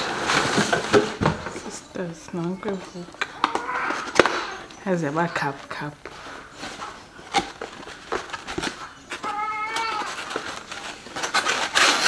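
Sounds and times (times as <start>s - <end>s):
cardboard packaging rustling: 0.0s - 12.0s.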